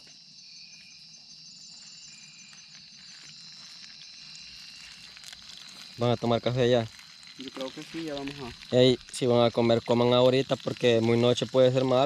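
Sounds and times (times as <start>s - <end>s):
crickets chirring: 0.0s - 12.0s
insect pulsing trill: 0.0s - 12.0s.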